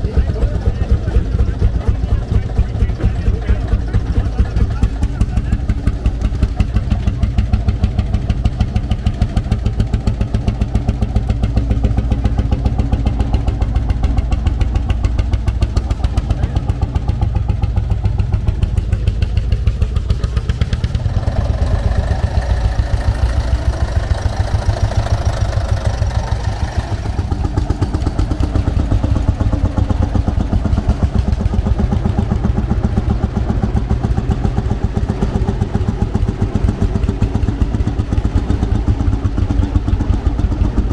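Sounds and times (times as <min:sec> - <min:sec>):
higher rough engine note: 0:00.0 - 0:40.9
tractor engine running: 0:00.0 - 0:40.9.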